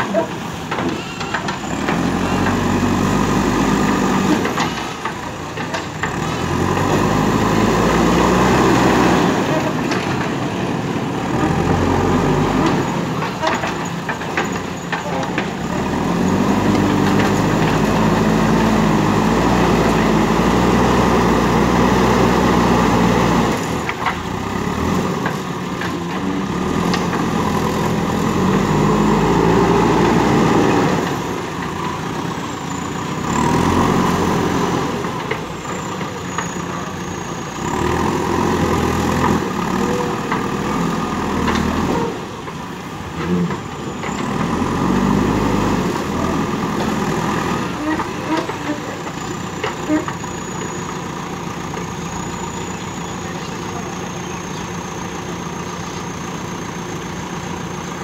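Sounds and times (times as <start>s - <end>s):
diesel engine revving under load: 0.0s - 58.0s.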